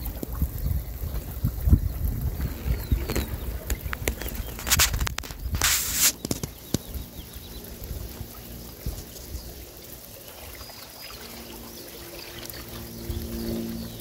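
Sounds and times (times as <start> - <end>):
low steady hum: 0.0 - 14.0
water drips: 0.0 - 14.0.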